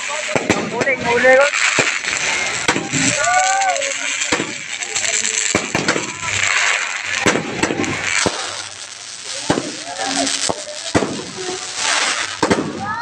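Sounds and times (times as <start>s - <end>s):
fireworks bangs: 0.0s - 13.0s
fireworks crackling hiss: 0.0s - 13.0s.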